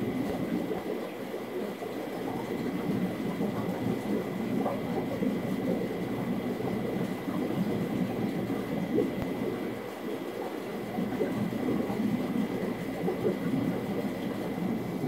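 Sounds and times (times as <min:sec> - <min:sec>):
aquarium filter bubbling: 0:00.0 - 0:15.0.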